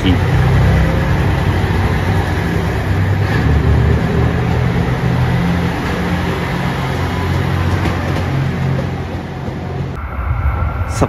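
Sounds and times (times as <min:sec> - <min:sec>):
diesel engine drone: 0:00.0 - 0:11.0
train wheels rumbling: 0:00.0 - 0:11.0.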